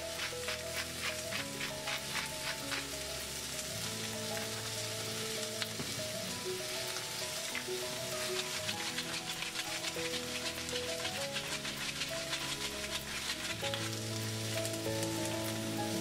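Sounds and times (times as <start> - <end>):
onions sizzling in a frying pan: 0.0 - 16.0
soft background music: 0.0 - 16.0.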